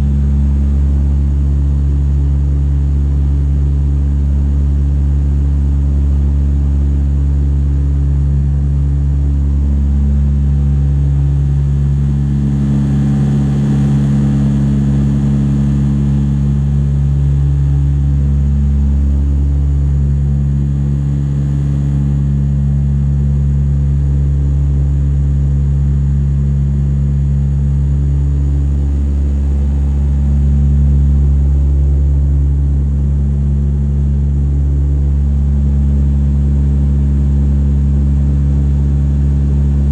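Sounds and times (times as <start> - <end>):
propeller plane cabin drone: 0.0 - 39.9.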